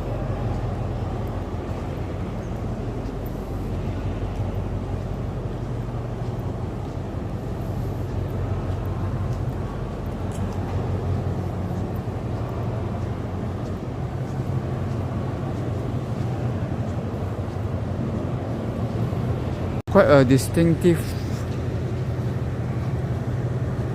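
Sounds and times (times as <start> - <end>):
low mechanical drone: 0.0 - 23.9.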